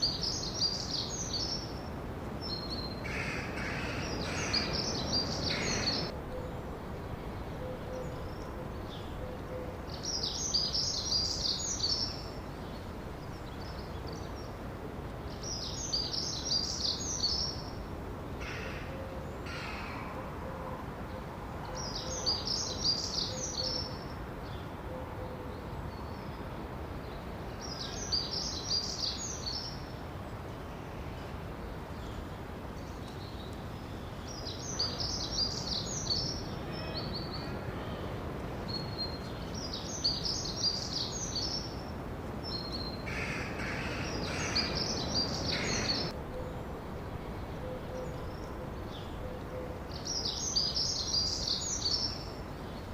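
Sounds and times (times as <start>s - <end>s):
songbird chirping: 0.0s - 17.9s, 18.7s - 52.9s
steady background hiss: 0.0s - 52.9s.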